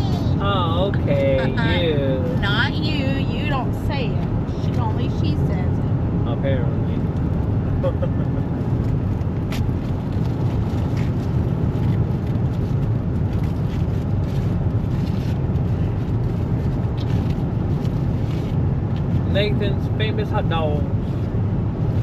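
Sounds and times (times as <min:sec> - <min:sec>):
truck road and engine rumble: 0:00.0 - 0:22.0.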